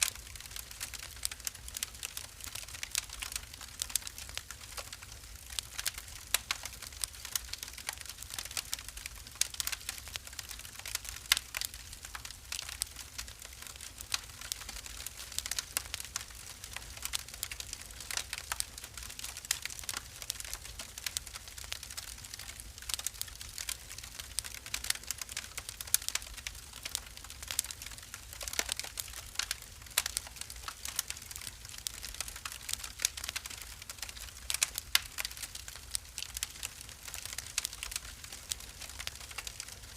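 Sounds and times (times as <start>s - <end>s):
low fire rumble: 0.0s - 39.9s
wood fire crackling: 0.0s - 39.9s.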